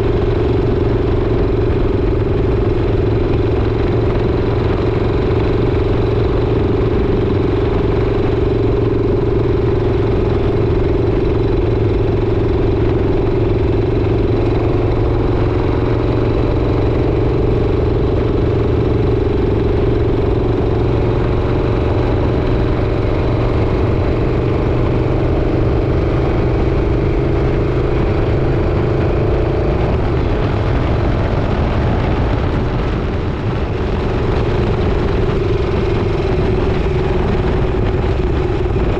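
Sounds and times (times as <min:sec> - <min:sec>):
low rumble: 0:00.0 - 0:38.9
motorcycle engine running: 0:00.0 - 0:38.9.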